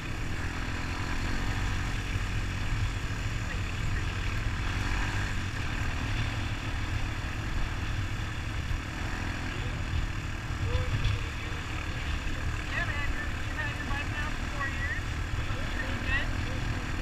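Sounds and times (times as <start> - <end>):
quad bike engine rumbling: 0.0 - 17.0.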